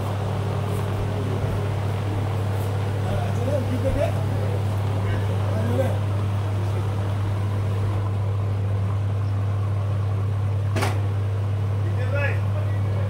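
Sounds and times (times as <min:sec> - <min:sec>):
loud steady low hum: 0:00.0 - 0:13.0.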